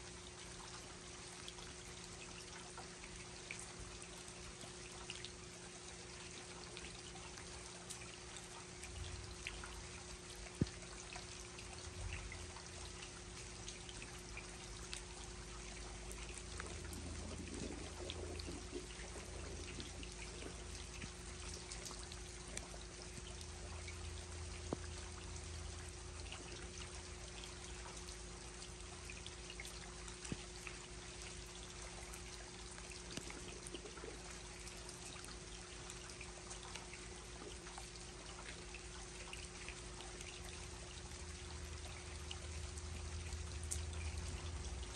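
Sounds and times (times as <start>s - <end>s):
drip ticks: 0.0s - 44.9s
faint steady hum: 0.0s - 44.9s
steady rain hiss: 0.0s - 44.9s.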